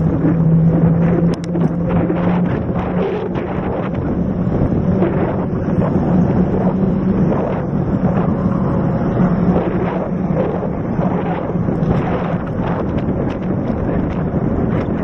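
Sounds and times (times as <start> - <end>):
steady low drone: 0.0 - 15.0
wind rushing over microphone: 0.0 - 15.0.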